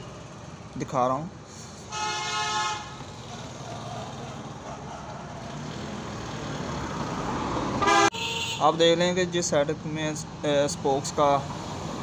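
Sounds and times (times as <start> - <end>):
vehicle motor and tyres: 0.0 - 12.0.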